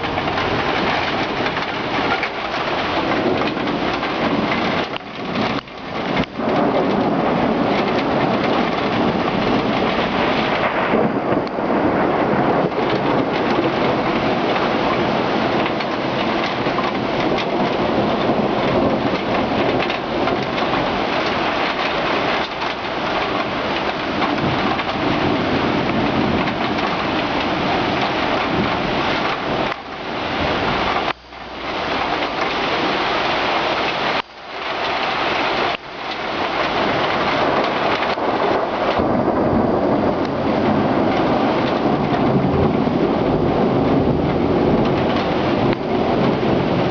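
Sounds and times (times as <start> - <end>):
heavy rain pouring: 0.0 - 46.9
thunder rumbling: 0.0 - 46.9.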